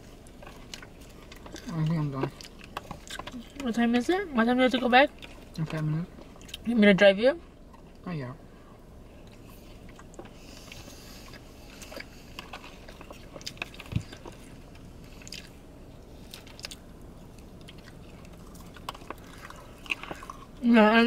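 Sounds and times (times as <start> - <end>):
chewing lettuce: 0.0 - 3.8, 4.7 - 6.7, 9.2 - 20.6.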